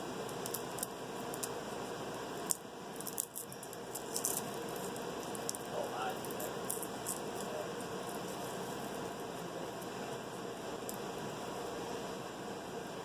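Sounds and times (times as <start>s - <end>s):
steady hiss: 0.0s - 13.0s
garlic skins crackling and rustling: 0.1s - 11.1s.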